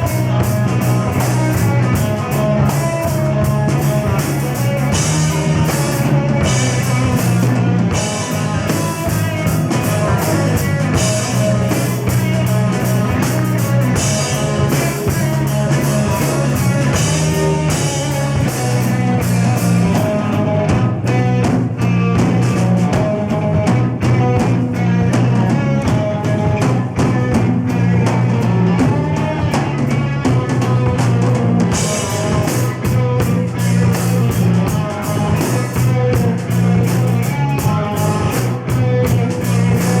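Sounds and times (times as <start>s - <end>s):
bass guitar: 0.0s - 40.0s
drum kit: 0.0s - 40.0s
electric guitar: 0.0s - 40.0s.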